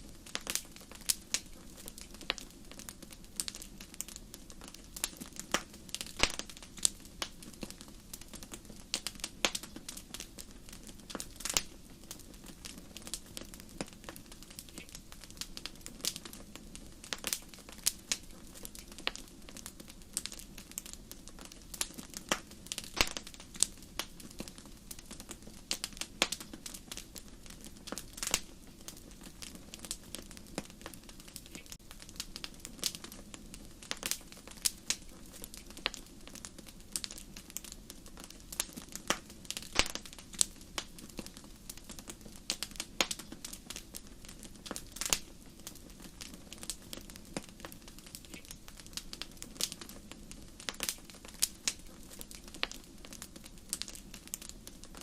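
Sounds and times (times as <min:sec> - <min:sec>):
flames hissing: 0:00.0 - 0:55.0
wood fire crackling and popping: 0:00.0 - 0:55.0.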